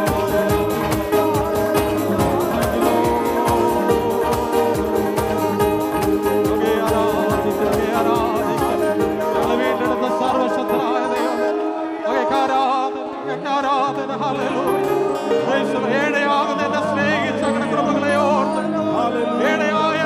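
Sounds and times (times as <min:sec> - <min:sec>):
group singing worship song: 0:00.0 - 0:20.0.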